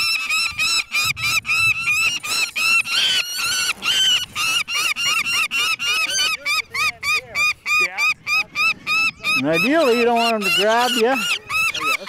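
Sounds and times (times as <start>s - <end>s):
young falcons calling: 0.0s - 12.0s.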